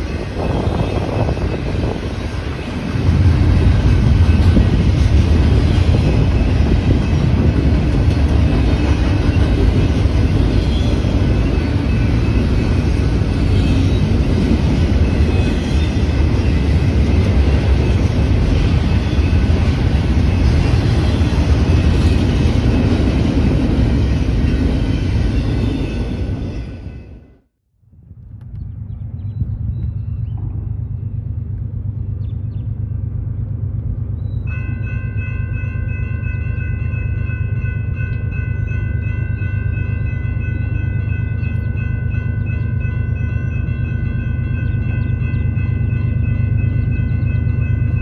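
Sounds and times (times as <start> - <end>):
freight cars rumbling on rails: 0.0 - 27.4, 28.0 - 48.0.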